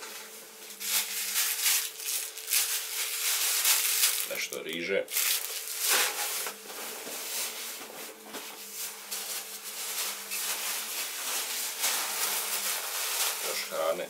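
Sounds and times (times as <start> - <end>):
plastic bags and fabric rustling: 0.0 - 14.0.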